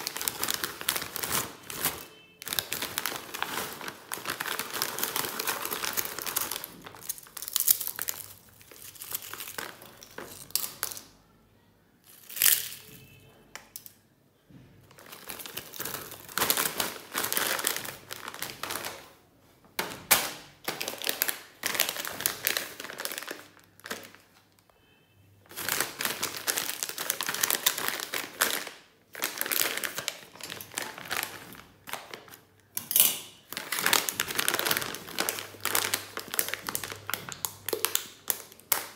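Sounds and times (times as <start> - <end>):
plastic snack packets crinkling: 0.0 - 11.2, 14.8 - 19.2, 19.8 - 24.6, 25.5 - 32.7, 33.4 - 38.9.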